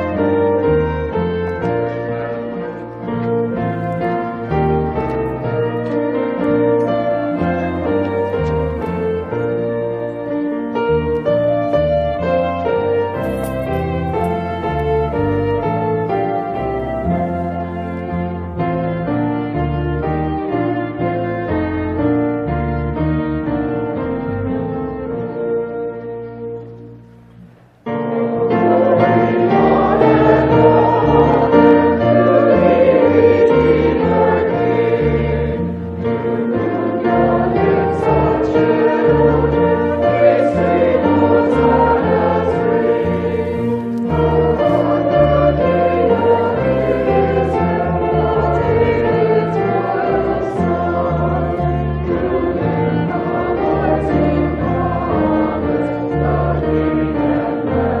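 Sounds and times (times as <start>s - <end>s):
choir singing with accompaniment: 0.0s - 58.0s.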